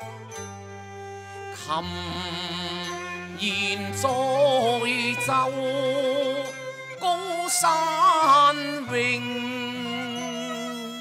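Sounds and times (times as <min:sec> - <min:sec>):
opera music melody: 0:00.0 - 0:11.0.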